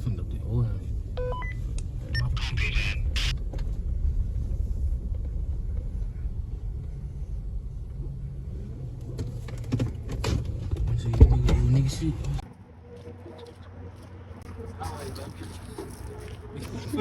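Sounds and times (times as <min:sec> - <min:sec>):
engine running low rumble: 0:00.0 - 0:17.0.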